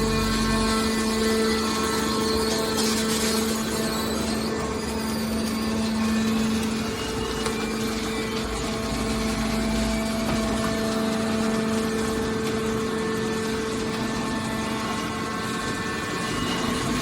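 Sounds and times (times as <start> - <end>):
hydraulic pump hum: 0.0 - 17.0
mechanical noise: 0.0 - 17.0.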